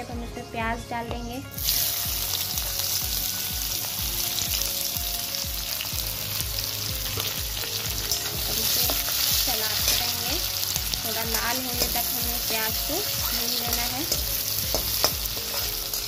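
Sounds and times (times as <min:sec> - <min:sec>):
background music: 0:00.0 - 0:16.0
onions sizzling in oil: 0:01.5 - 0:16.0.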